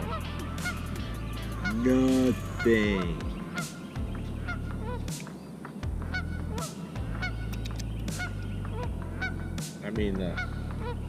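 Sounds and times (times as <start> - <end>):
low steady rumble: 0.0 - 5.2, 5.8 - 11.0
distant geese honking: 0.0 - 11.0.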